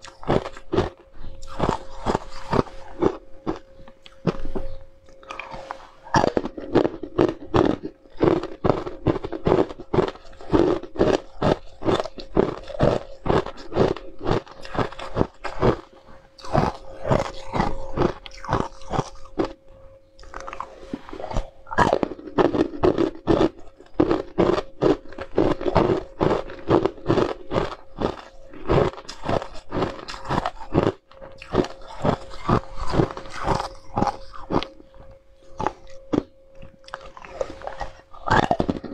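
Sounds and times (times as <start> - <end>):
ice cubes crunched between teeth: 0.0 - 19.6, 20.2 - 38.9.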